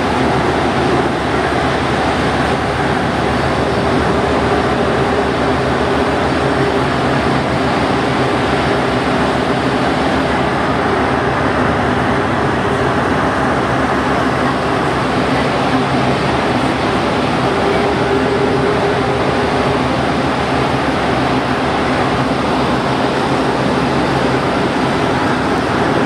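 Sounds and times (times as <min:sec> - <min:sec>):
metro train rumbling in tunnel: 0:00.0 - 0:26.0.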